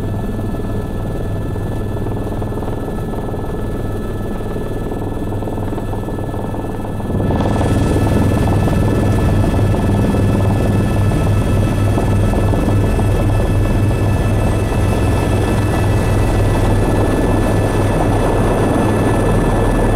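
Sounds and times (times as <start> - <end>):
helicopter rotor beat: 0.0 - 19.9
high turbine whine: 0.0 - 19.9.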